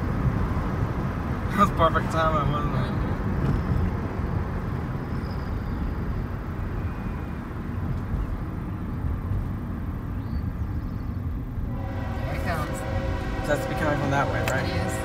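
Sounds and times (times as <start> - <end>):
road and engine rumble inside car: 0.0 - 12.1.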